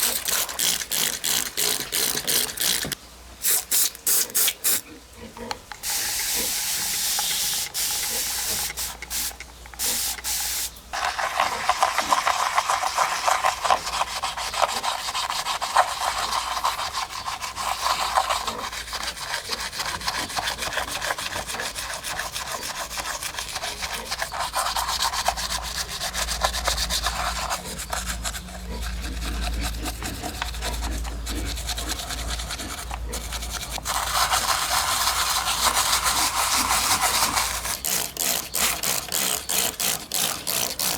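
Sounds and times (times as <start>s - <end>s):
scratchy scrubbing on model car: 0.0s - 3.0s, 5.8s - 40.9s.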